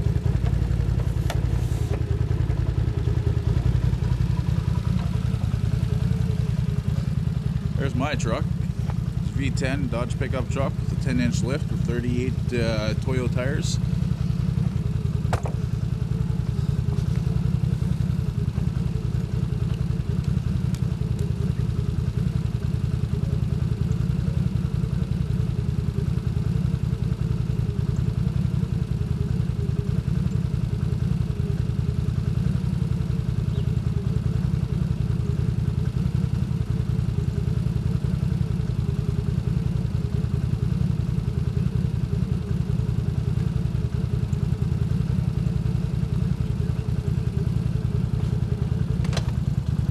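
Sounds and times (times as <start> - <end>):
atv engine idling: 0.0 - 49.9.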